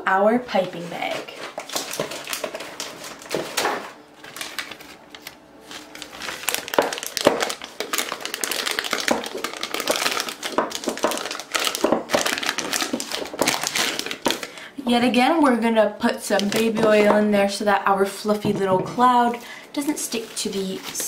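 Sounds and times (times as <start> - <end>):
plastic piping bag crinkling: 0.4 - 14.8, 16.2 - 17.6, 18.9 - 21.0.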